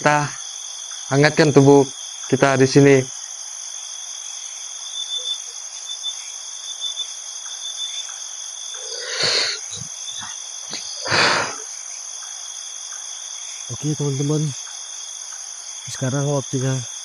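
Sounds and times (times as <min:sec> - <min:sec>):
crickets and night insects: 0:00.0 - 0:17.0.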